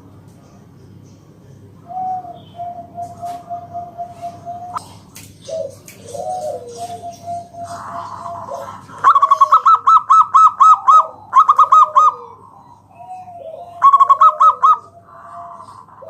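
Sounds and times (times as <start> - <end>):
doves cooing: 1.6 - 16.0.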